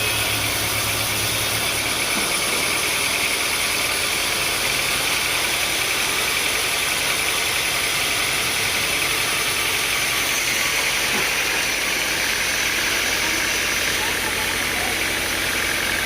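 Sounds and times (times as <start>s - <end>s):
sawmill machinery drone: 0.0s - 16.0s.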